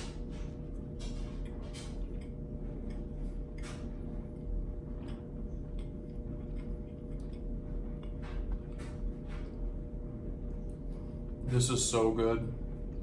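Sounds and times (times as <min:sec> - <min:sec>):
man chewing: 0:00.0 - 0:11.4
low hum: 0:00.0 - 0:13.0.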